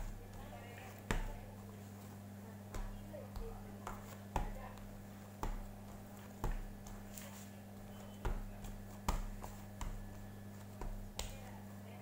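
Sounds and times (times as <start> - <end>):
dough thumping against tray: 0.0 - 1.5, 2.7 - 11.6
steady low hum: 0.0 - 12.0.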